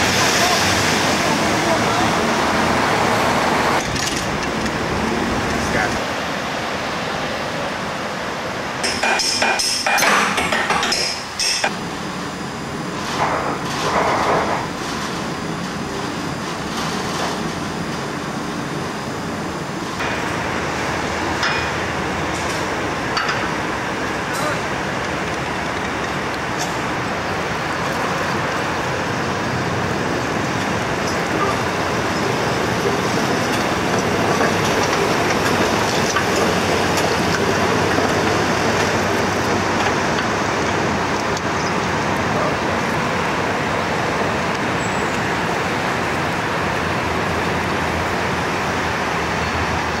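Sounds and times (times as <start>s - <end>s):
city street traffic: 0.0s - 50.0s.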